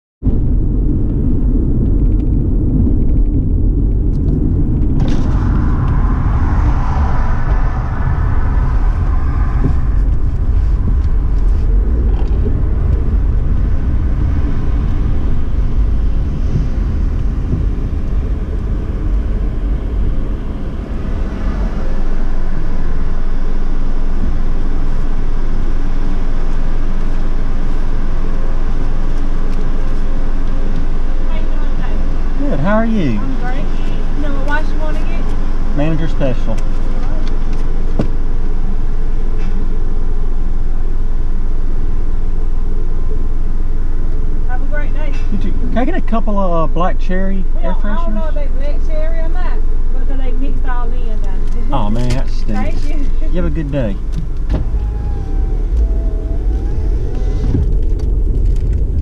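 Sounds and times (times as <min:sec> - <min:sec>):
car road rumble: 0:00.2 - 0:59.0.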